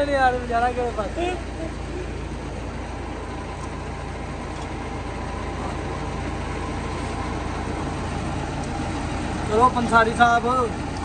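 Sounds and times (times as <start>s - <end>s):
truck engine humming: 0.0s - 11.0s.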